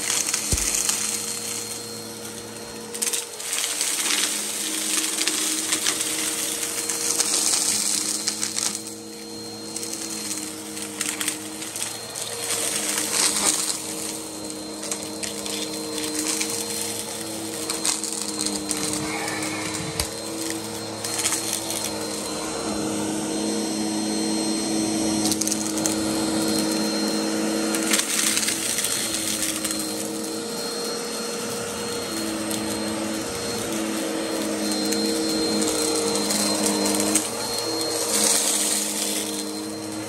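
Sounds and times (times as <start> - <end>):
dirt crunching in vacuum: 0.0 - 40.0
vacuum cleaner running: 0.0 - 40.0.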